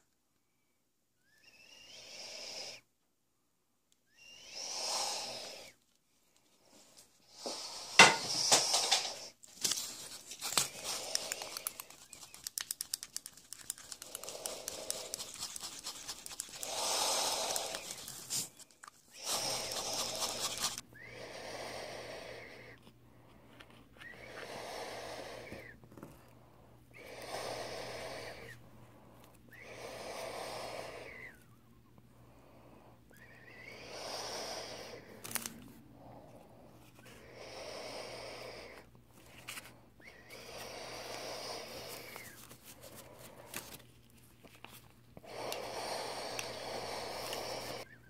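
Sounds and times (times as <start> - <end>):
close breathing: 4.1 - 5.8, 6.4 - 12.4, 13.5 - 44.3, 45.1 - 48.0.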